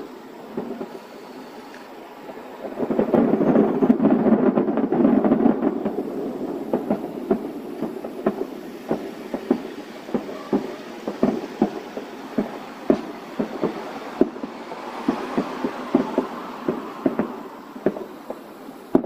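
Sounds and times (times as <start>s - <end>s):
distant firework bursts: 0.0s - 19.0s.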